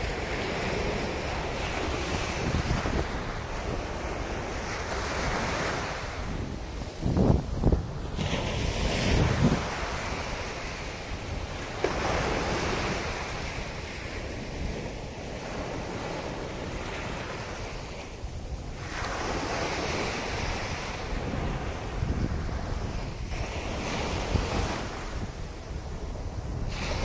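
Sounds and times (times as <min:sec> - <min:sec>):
ocean surf on a beach: 0:00.0 - 0:27.0
wind buffeting microphone: 0:00.0 - 0:27.0.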